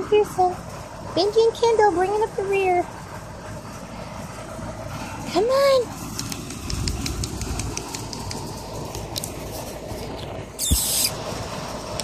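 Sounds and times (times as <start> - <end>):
outdoor air rumble: 0.0 - 12.0.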